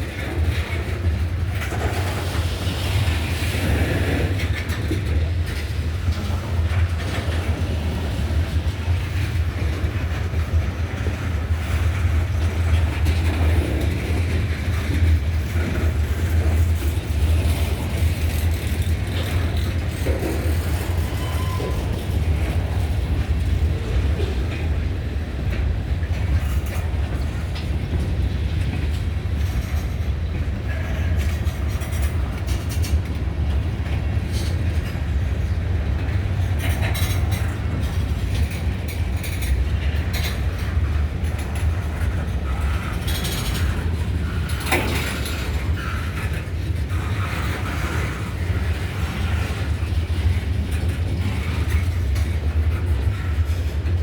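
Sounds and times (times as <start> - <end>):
train cars rumbling: 0.0 - 54.0
wheels clicking and clanking: 0.0 - 54.0.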